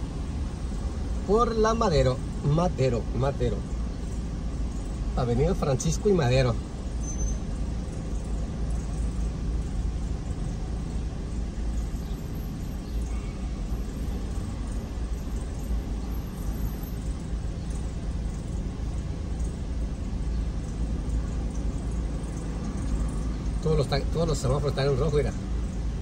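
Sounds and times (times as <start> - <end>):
car engine idling: 0.0 - 26.0
traffic driving past: 0.0 - 26.0.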